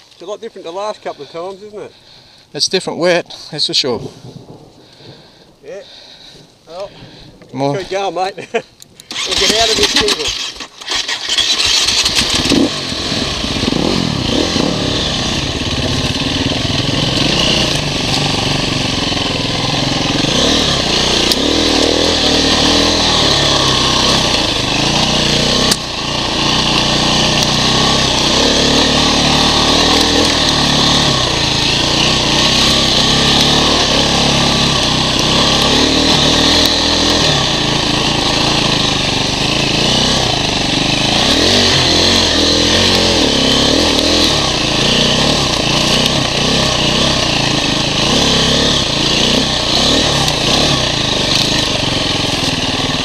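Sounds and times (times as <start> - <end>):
dirt bike engine revving: 9.0 - 53.0.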